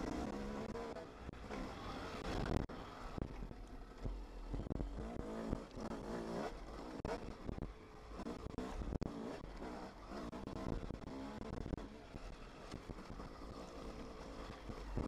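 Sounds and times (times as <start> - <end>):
dirt bike engine revving: 0.0 - 3.0, 4.6 - 15.0.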